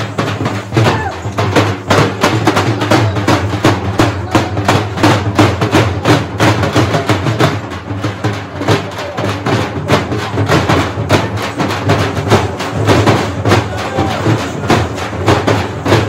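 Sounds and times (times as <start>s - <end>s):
drums beaten with sticks: 0.0s - 16.0s.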